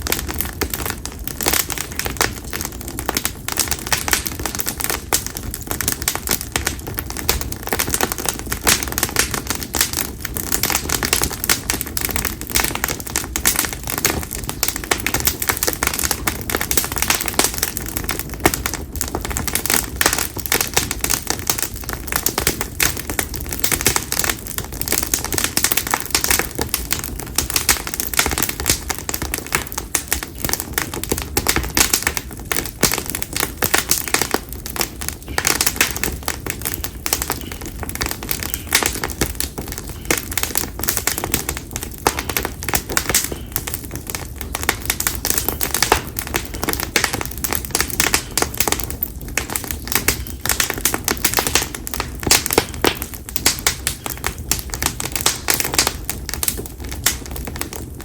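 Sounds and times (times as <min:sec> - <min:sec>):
firewood crackling and popping: 0:00.0 - 0:58.0.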